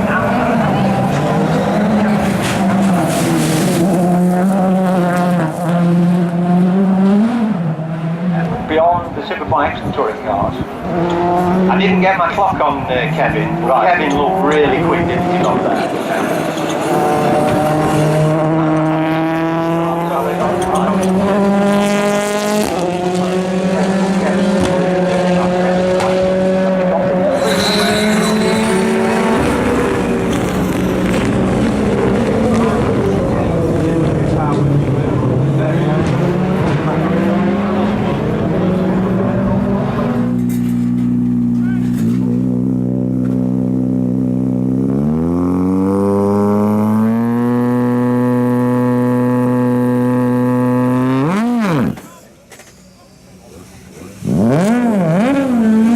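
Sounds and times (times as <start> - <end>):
rally car engine running high: 0.0 - 52.3, 53.6 - 55.9.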